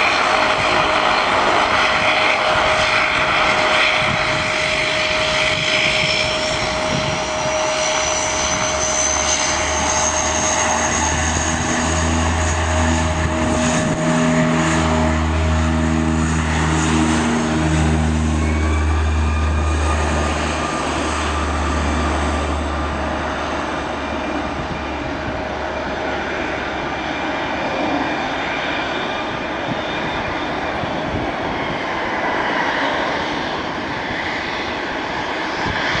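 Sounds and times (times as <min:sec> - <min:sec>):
turboprop engines and propellers: 0:00.0 - 0:36.0.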